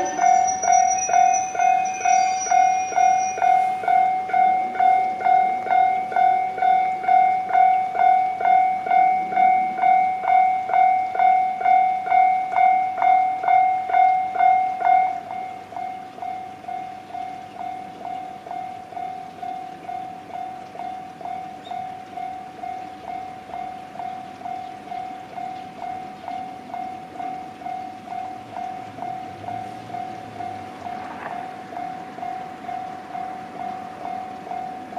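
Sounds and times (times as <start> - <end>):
level-crossing electronic bell: 0.0 - 34.9.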